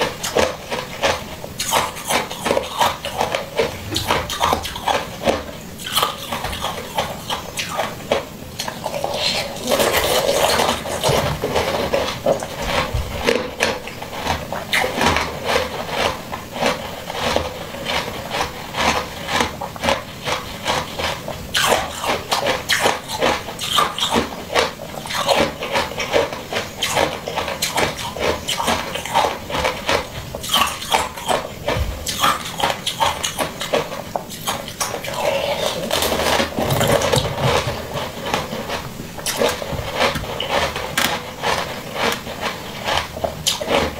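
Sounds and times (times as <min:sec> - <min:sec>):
crunching and chewing: 0:00.0 - 0:43.9.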